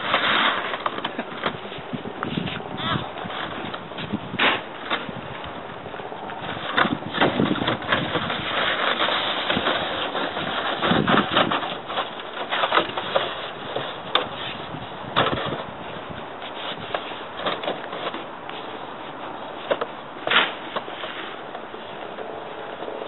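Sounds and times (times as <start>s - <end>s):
crunching snow: 0.0s - 23.0s
plastic sled scraping: 0.0s - 23.0s
steady noisy hiss: 0.0s - 23.0s.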